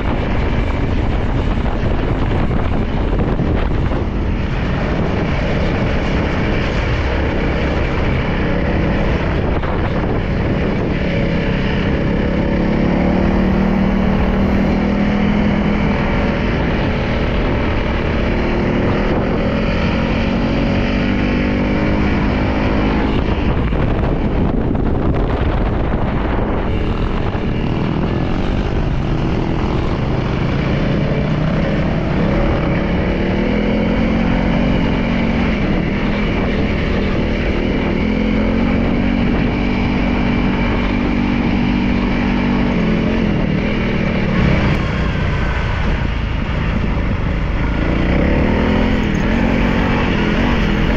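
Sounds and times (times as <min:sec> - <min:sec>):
motorcycle engine running: 0:00.0 - 0:50.9
rushing noise: 0:00.0 - 0:50.9.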